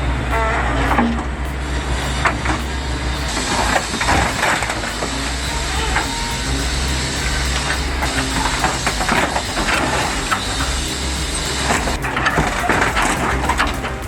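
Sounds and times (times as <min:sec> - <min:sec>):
excavator engine droning: 0:00.0 - 0:14.0.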